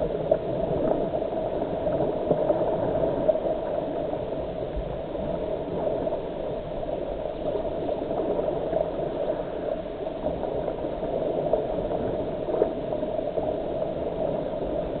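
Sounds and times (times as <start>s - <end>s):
lake water gurgling: 0.0s - 15.0s.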